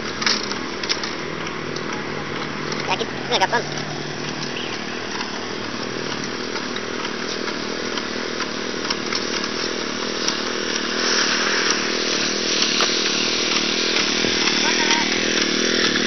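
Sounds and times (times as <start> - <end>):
power tool engine running: 0.0 - 16.0.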